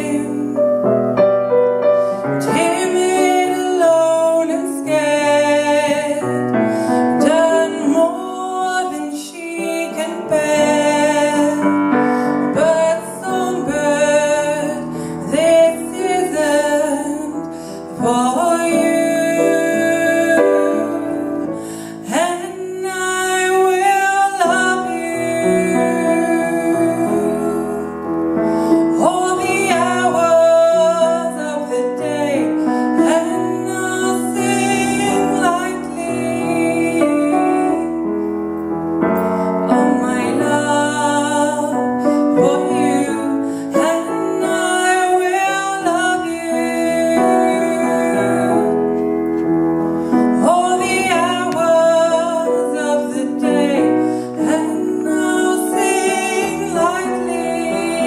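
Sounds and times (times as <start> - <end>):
woman singing: 0.0 - 0.9, 2.1 - 38.2, 39.2 - 49.2, 50.0 - 58.0
piano playing: 0.0 - 58.0.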